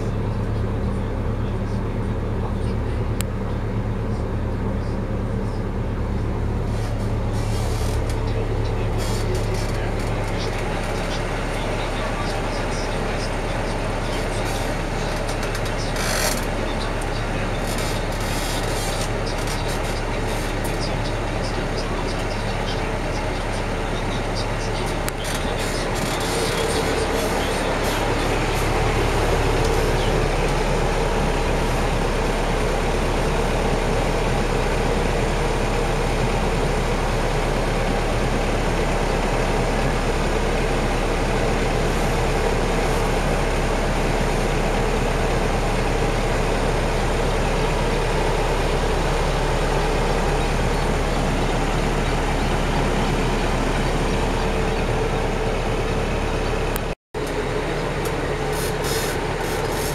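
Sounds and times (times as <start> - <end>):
ferry engine droning: 0.0 - 59.9.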